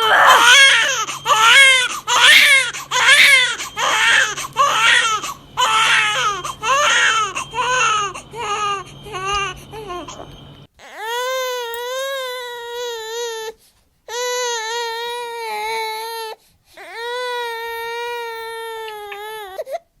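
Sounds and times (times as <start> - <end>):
baby crying: 0.0 - 19.8.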